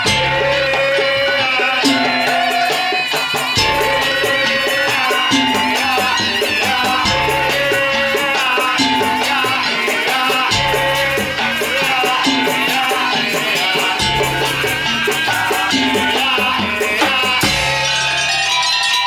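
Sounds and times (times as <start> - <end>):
percussion ensemble music: 0.0 - 19.0.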